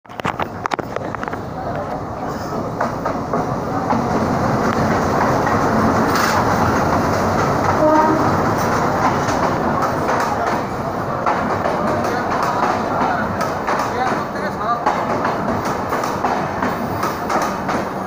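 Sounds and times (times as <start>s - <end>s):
train wheels on rails: 0.1s - 18.0s.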